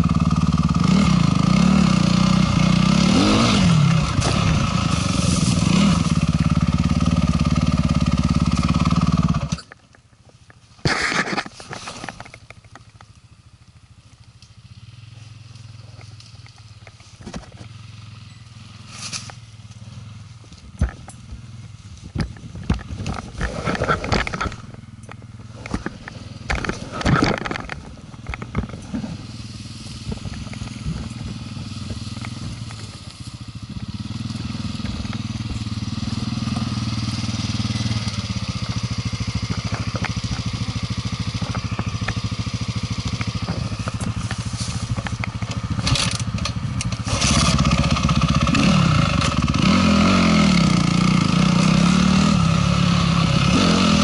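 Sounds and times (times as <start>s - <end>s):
small vehicle engine revving: 0.0s - 9.8s, 10.8s - 54.0s.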